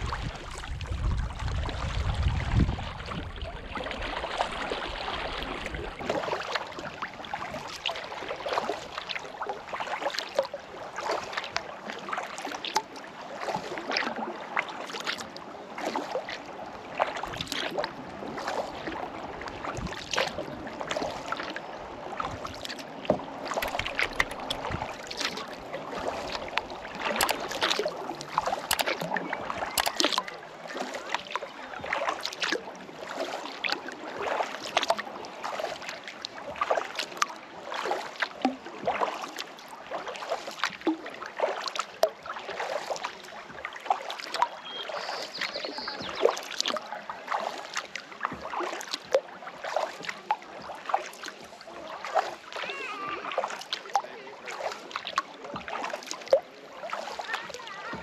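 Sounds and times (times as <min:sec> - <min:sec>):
paddle strokes in water: 0:00.0 - 0:58.0
water dripping off paddle: 0:02.9 - 0:58.0.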